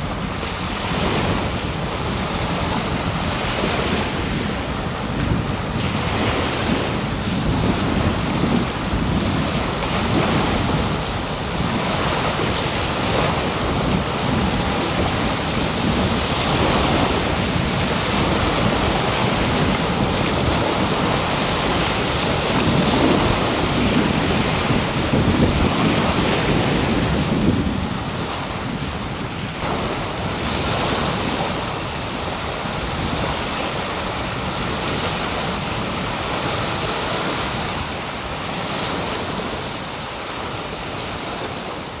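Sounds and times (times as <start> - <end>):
small waves breaking on shore: 0.0 - 42.0
wind rumble on microphone: 0.0 - 42.0.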